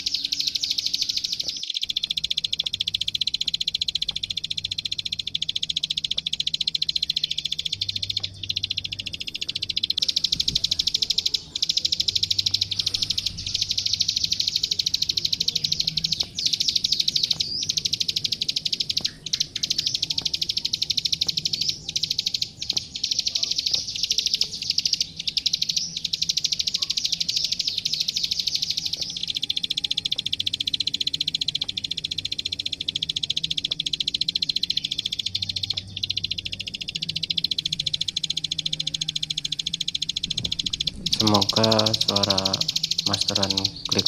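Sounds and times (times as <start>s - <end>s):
bird clicking trill: 0.0s - 44.0s.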